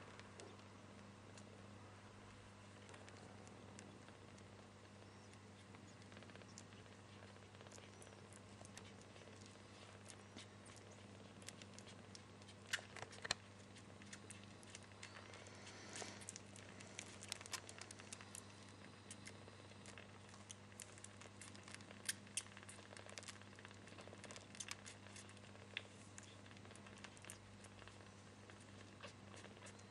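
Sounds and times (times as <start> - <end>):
kittens nursing clicks and rustles: 0.0 - 29.9
steady low hum: 0.0 - 29.9.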